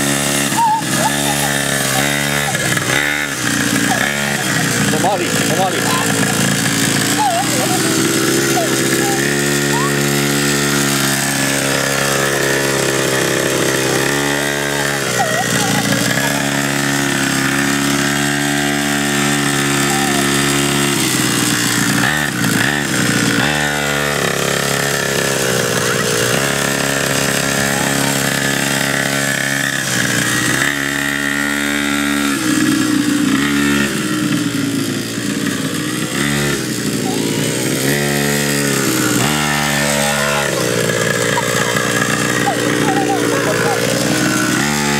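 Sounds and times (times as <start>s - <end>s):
small quad engine buzzing: 0.0s - 44.9s.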